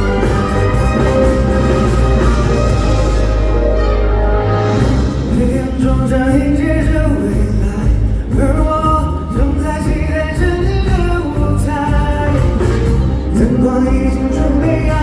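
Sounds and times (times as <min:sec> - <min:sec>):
band with heavy bass: 0:00.0 - 0:15.0.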